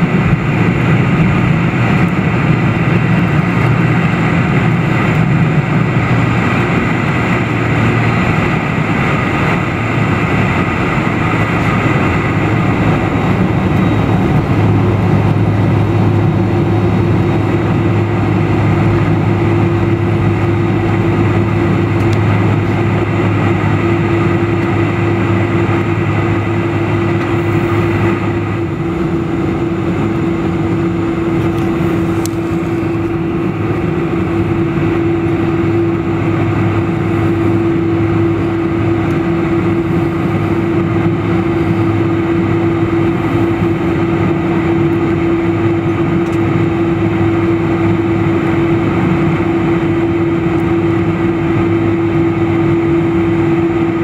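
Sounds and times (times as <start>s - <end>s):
higher hum: 0.0s - 54.0s
jet engines roaring: 0.0s - 54.0s
low hum: 0.0s - 54.0s
rushing air: 0.0s - 54.0s.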